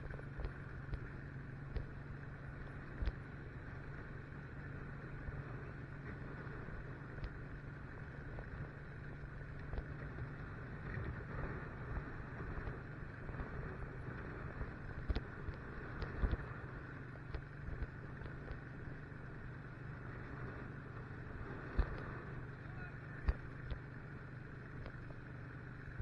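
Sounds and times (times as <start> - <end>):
motorcycle engine droning: 0.0 - 26.0
road noise: 0.0 - 26.0.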